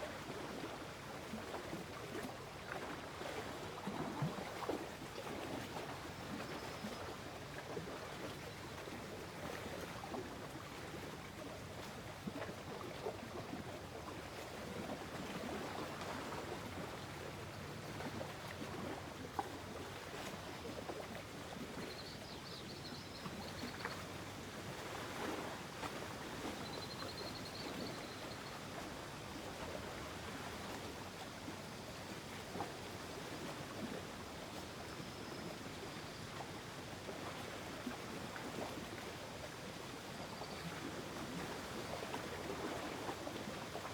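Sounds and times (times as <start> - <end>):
lake water lapping at shore: 0.1 - 43.9.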